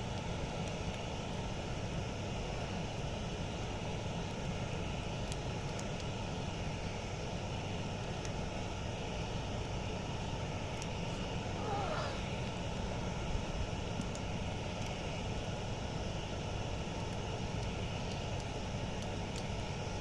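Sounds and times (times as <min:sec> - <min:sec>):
campfire rumble: 0:00.0 - 0:20.0
faint fire crackles: 0:00.0 - 0:20.0.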